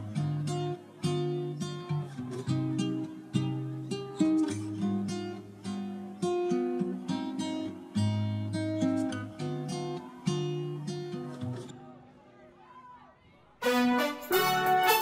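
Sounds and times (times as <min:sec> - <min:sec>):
strummed acoustic guitar: 0:00.0 - 0:11.8, 0:13.6 - 0:15.0.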